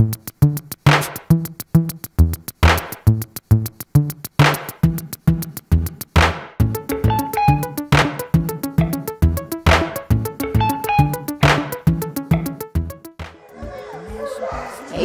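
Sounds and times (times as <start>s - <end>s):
electronic music with drum machine: 0.0s - 14.8s.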